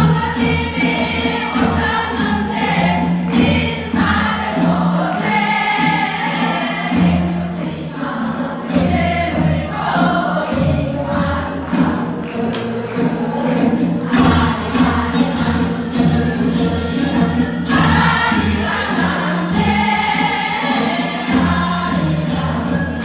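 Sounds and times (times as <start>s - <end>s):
drum strokes: 0.0s - 23.0s
group singing in chorus: 0.0s - 23.0s
instrumental accompaniment: 0.0s - 23.0s.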